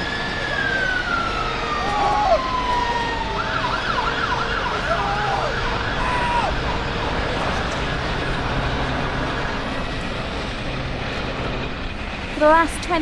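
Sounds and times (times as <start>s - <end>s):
emergency vehicle siren: 0.0s - 11.8s.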